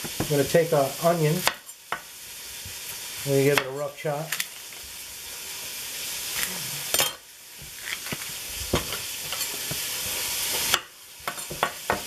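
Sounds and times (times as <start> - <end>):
sausage sizzling in a frying pan: 0.0 - 12.0.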